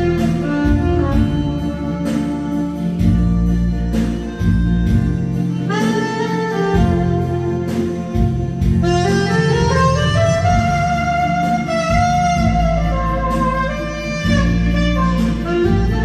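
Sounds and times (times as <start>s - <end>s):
bass and light beat: 0.0s - 16.0s
saxophone melody: 0.0s - 16.0s.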